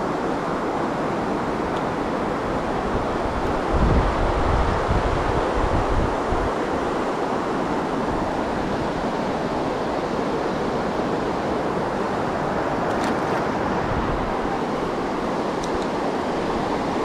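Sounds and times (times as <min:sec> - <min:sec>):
creek water rushing: 0:00.0 - 0:17.0
wind buffeting microphone: 0:01.2 - 0:17.0.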